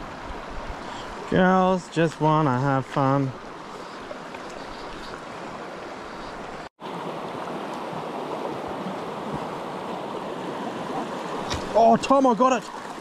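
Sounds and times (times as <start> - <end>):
stream running over stones: 0.0 - 13.0.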